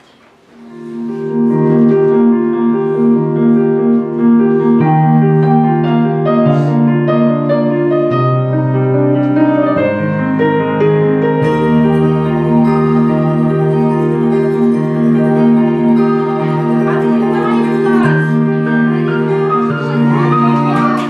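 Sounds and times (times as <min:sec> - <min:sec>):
slow keyboard chords with melody: 0:00.6 - 0:21.0.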